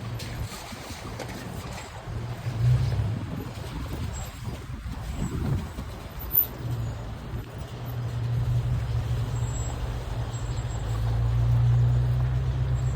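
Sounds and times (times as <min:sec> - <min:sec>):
vehicle engine and road drone: 0:00.0 - 0:12.9.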